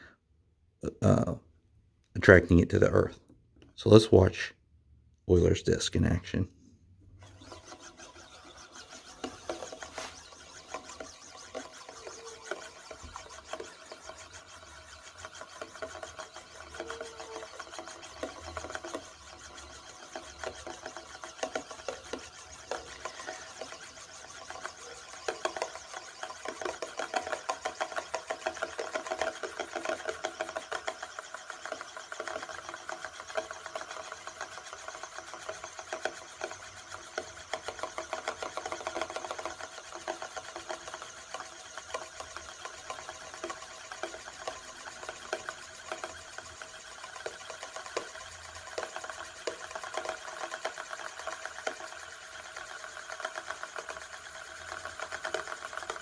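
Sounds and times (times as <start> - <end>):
metal disk whirring rattle: 7.1 - 56.0.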